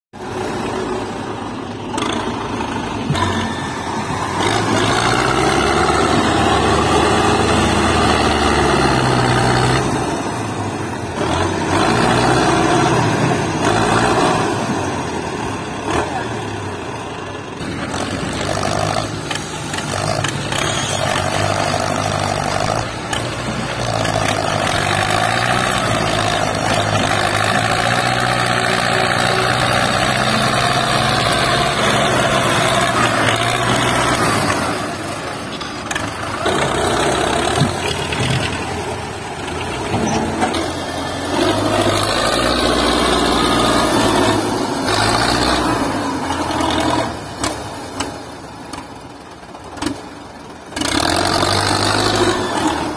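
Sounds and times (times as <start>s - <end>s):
tractor engine labouring: 0.2s - 52.9s.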